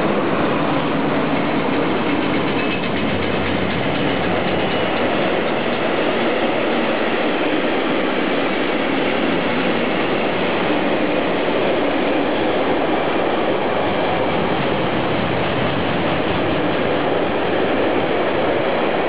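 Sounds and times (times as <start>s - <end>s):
train wheels running on rails: 0.0s - 19.0s.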